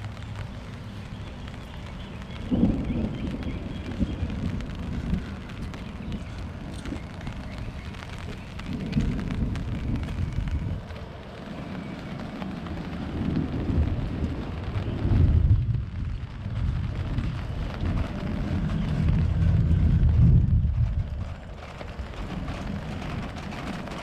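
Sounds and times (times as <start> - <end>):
deep low rumble: 0.0 - 24.0
rain on wet pavement: 0.0 - 24.0.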